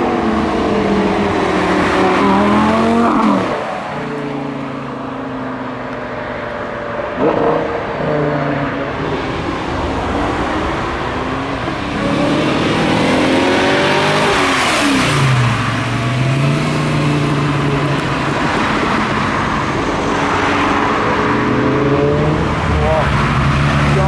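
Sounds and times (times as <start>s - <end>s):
car engine passing by: 0.0s - 24.0s.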